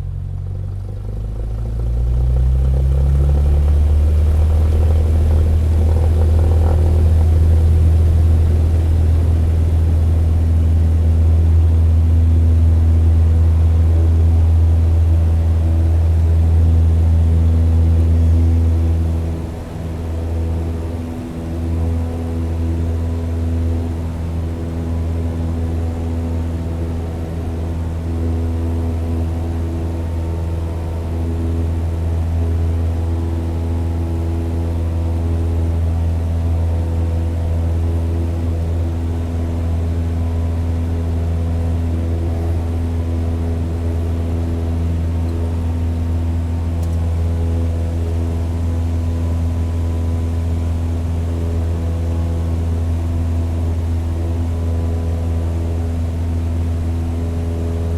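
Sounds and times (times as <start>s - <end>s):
propeller aircraft engine drone: 0.0s - 57.9s.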